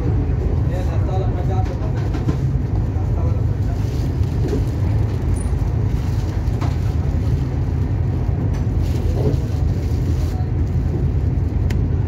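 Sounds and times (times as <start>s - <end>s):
train rumbling heard from inside: 0.0s - 12.0s.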